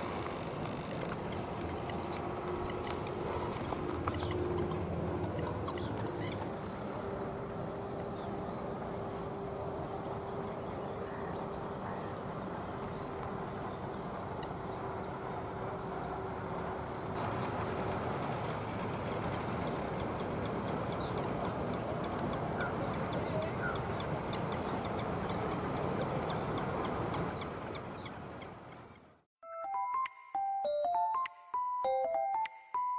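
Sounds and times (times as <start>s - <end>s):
steady rushing noise: 0.0s - 28.4s
low hum: 0.0s - 29.2s.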